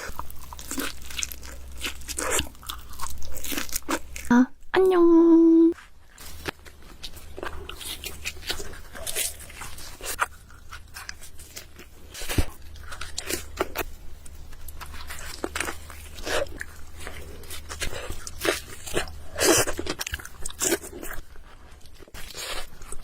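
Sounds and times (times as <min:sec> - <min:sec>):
crunching bites into crust: 0:00.0 - 0:04.3, 0:05.8 - 0:23.0
wet chewing and smacking: 0:00.0 - 0:04.3, 0:05.8 - 0:23.0.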